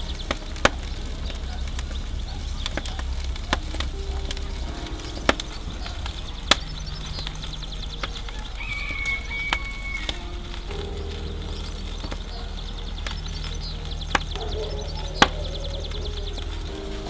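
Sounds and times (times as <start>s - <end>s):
fire popping: 0.0s - 17.0s
low steady rumble: 0.0s - 17.0s
wood fire crackling: 0.0s - 17.0s.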